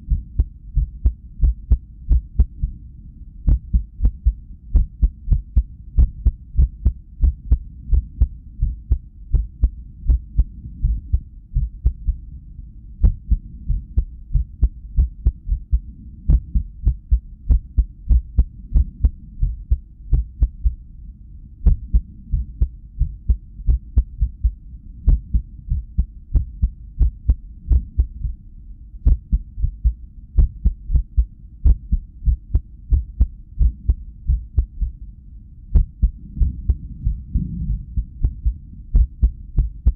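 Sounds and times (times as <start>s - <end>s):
heartbeat thumps: 0.0s - 2.8s, 3.5s - 12.3s, 13.0s - 20.8s, 21.6s - 28.4s, 29.0s - 35.0s, 35.7s - 39.9s.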